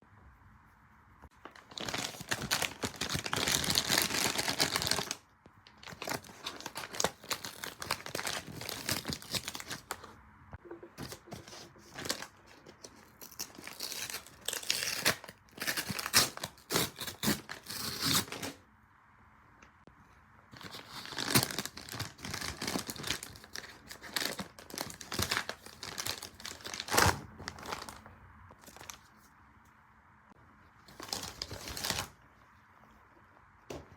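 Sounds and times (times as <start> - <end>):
crinkling and crumpling: 1.3 - 18.6, 20.5 - 29.4, 30.8 - 32.6.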